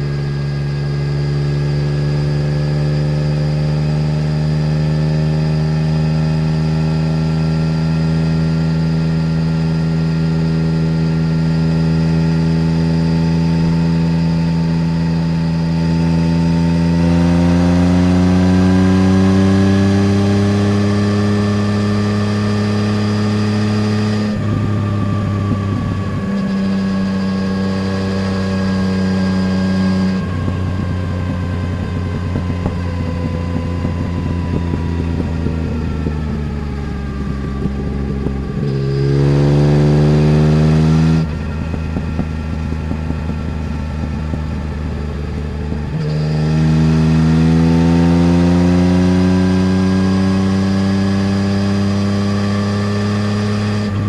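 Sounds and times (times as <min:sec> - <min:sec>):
motorcycle engine crackling and revving: 0:00.0 - 0:54.0.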